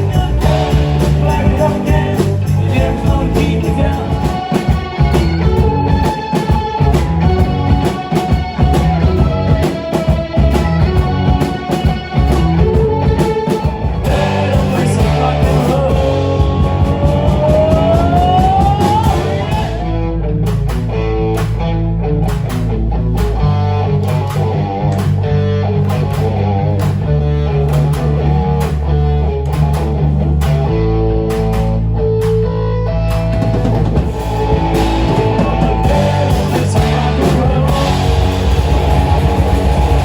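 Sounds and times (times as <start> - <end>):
rock music with guitar and drums: 0.0 - 40.0.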